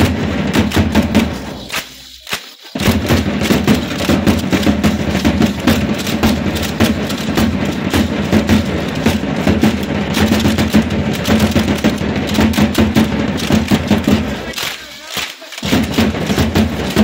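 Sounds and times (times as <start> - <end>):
drum beats: 0.0 - 17.0
stamping dance steps: 0.0 - 17.0.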